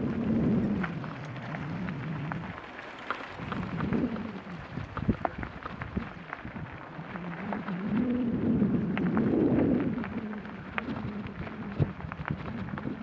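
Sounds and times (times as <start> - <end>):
low rumble: 0.0 - 2.7, 3.3 - 13.0
bike knocking and rattling: 0.0 - 13.0.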